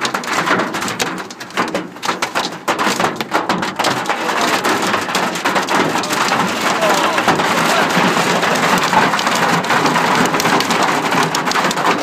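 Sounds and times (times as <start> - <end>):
hail and rain on a car roof: 0.0 - 12.0.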